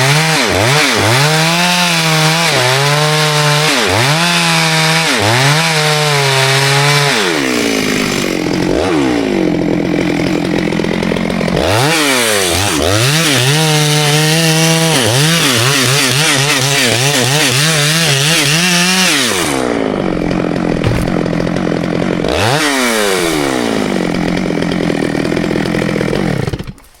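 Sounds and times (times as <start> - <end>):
chainsaw cutting wood: 0.0 - 27.0
chainsaw idling: 0.0 - 27.0.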